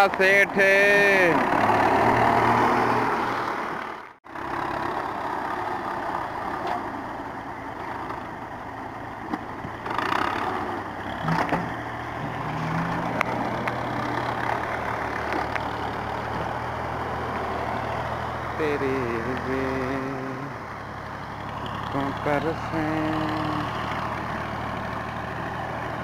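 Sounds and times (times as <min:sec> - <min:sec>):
tractor engine idling: 0:03.6 - 0:26.0.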